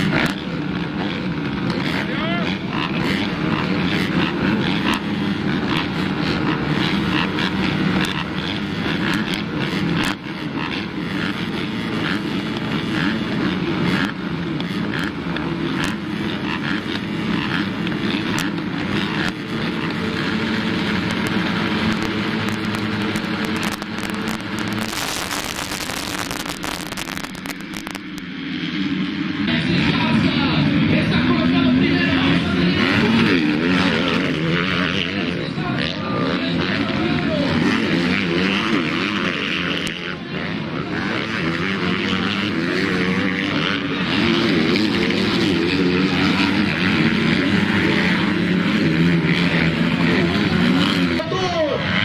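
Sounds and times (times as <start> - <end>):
motocross motorcycle engines revving: 0.0 - 52.0.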